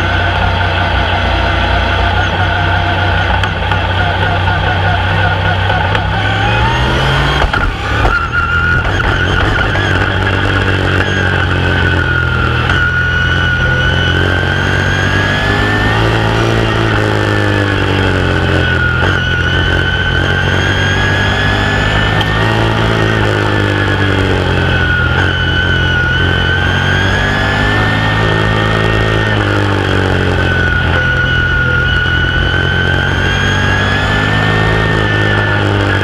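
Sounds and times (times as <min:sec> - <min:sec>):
race car engine at speed: 0:00.0 - 0:36.0.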